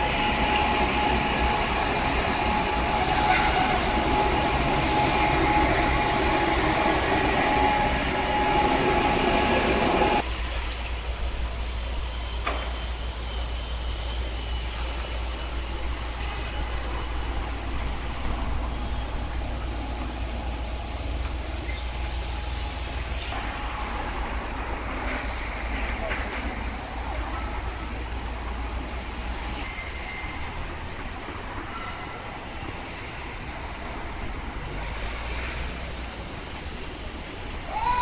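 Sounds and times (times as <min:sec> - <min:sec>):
steady whine: 0:00.0 - 0:31.8.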